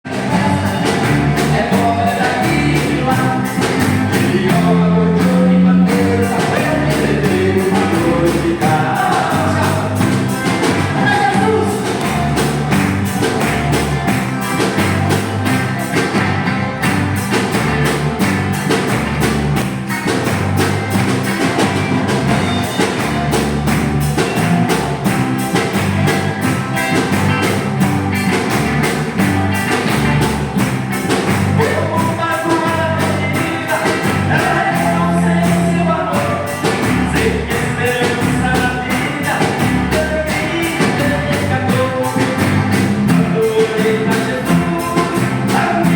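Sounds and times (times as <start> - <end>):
rock band playing a hymn: 0.0 - 45.9
steady drum beat: 0.0 - 45.9.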